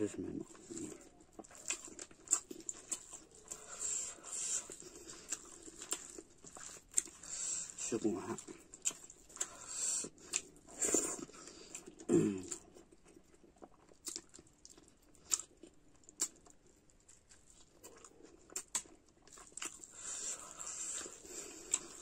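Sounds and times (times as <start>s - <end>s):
wet chewing: 0.4s - 22.0s.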